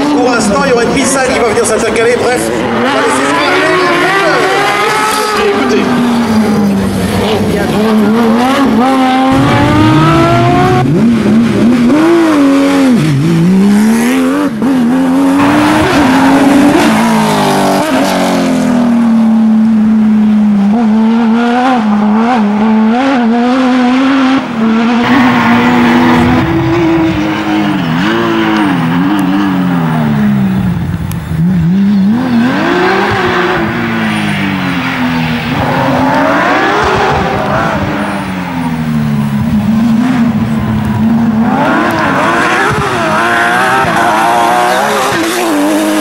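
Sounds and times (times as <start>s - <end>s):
rally car engines at full throttle: 0.0s - 46.0s.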